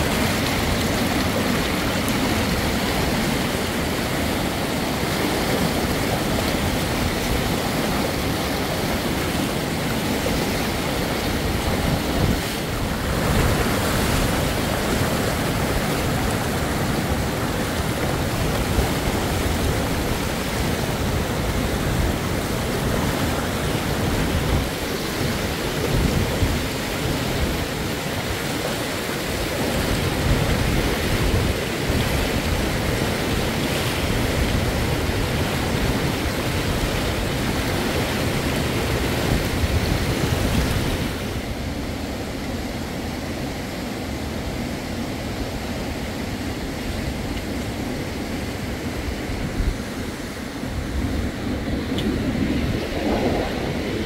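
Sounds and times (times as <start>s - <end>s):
fast-flowing river rushing: 0.0s - 54.0s.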